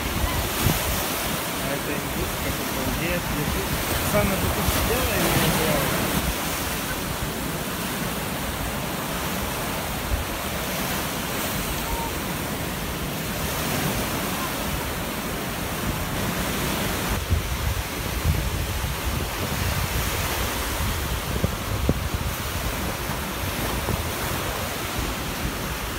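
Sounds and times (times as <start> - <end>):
waves breaking on beach: 0.0 - 25.9.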